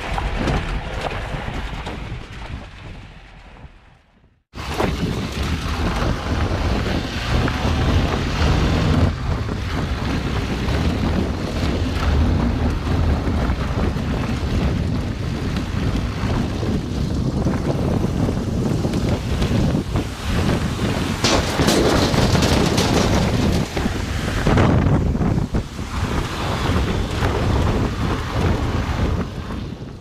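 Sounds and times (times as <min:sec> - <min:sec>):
wind buffeting microphone: 0:00.0 - 0:30.0
vehicle rumbling on gravel: 0:04.5 - 0:30.0.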